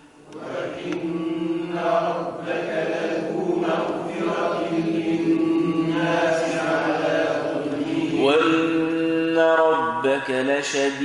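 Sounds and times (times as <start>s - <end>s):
men chanting in unison: 0.4s - 11.0s.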